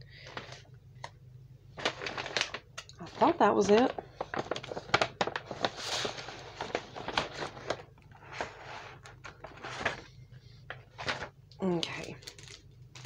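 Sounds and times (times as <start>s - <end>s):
plastic packaging crinkling: 1.7s - 13.0s.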